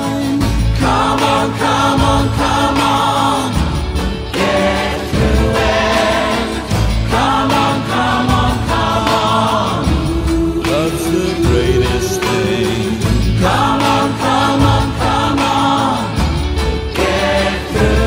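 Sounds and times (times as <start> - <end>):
gospel choir with instrumental backing: 0.0 - 18.0.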